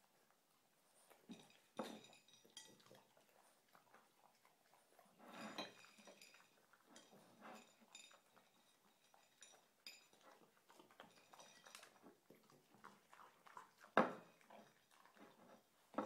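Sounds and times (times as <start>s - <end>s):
dog eating from a dish: 0.0s - 16.0s.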